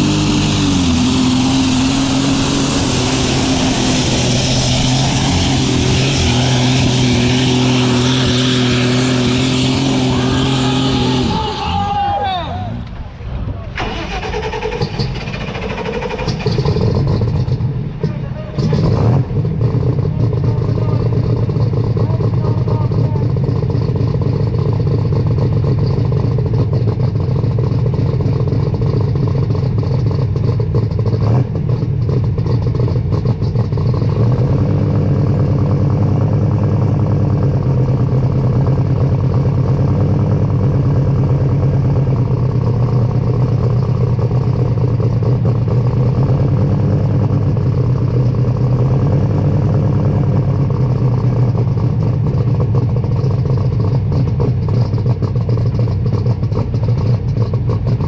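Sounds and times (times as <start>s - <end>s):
diesel engine running loud: 0.0s - 58.0s.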